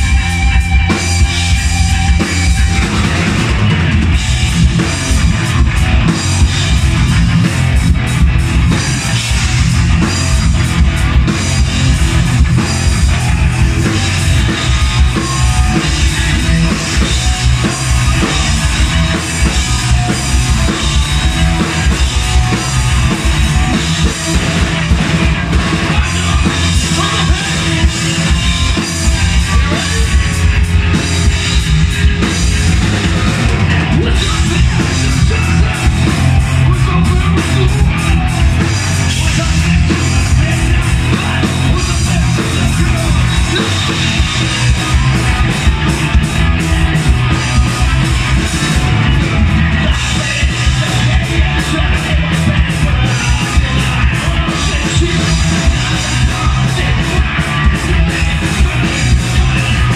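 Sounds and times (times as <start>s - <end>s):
fast heavy drumming: 0.0s - 59.9s
rock band playing live: 0.0s - 59.9s.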